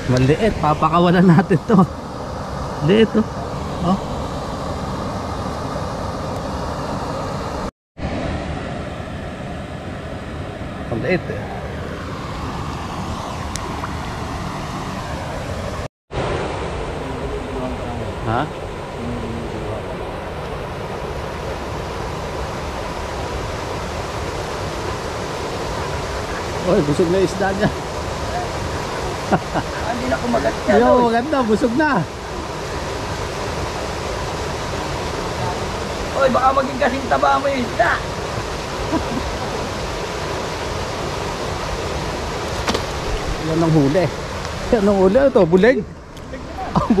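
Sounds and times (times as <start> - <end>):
low rumbling outdoor hiss: 0.0 - 47.0.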